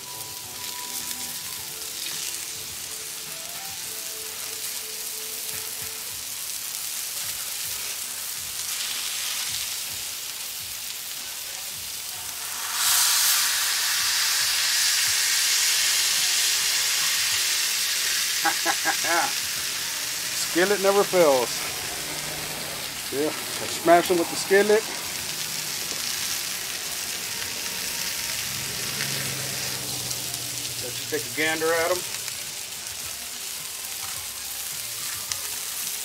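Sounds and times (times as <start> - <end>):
burger patty sizzling on griddle: 0.0 - 36.0.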